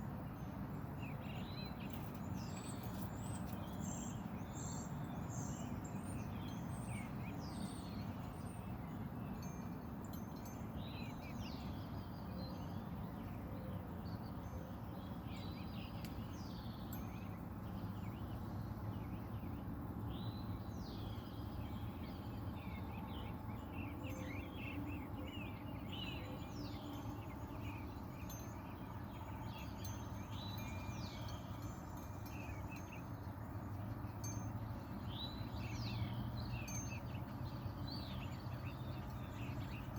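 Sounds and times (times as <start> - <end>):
birds chirping: 0.2 - 39.9.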